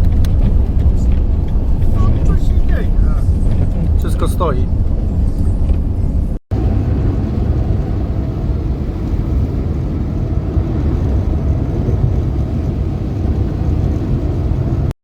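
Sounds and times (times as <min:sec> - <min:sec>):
blizzard wind buffeting microphone: 0:00.0 - 0:14.9.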